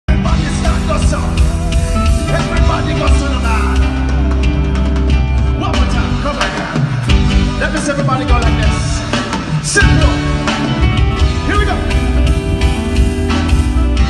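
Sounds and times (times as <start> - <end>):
bass notes: 0.1 - 14.0
guitar: 0.1 - 14.0.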